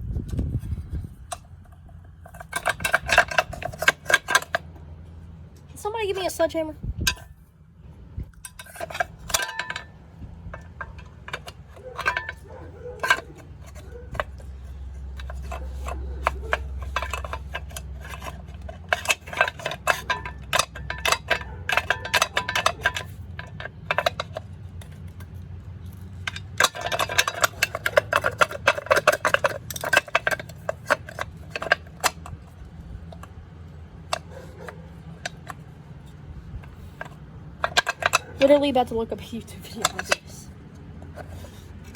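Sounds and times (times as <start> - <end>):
metal tools clinking on metal: 2.2 - 4.8, 8.3 - 33.3, 34.1 - 41.9.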